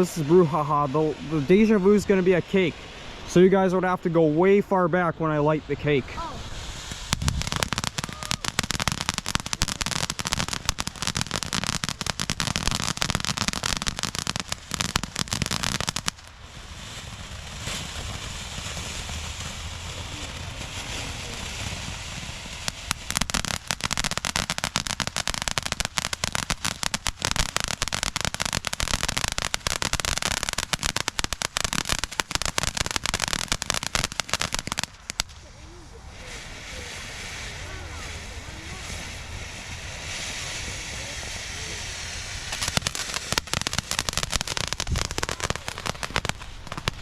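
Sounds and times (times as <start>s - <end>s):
firework crackling: 0.0s - 47.0s
firework hissing: 0.0s - 47.0s.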